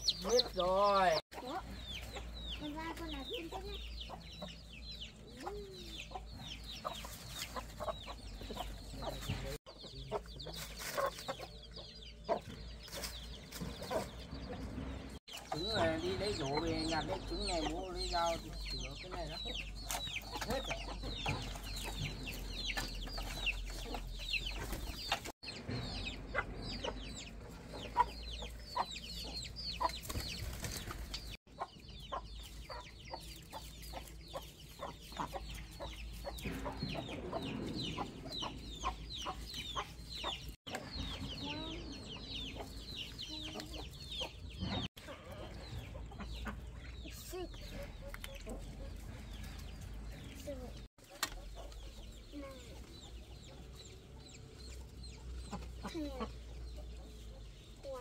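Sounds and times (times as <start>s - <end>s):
chickens clucking and peeping: 0.0s - 58.0s.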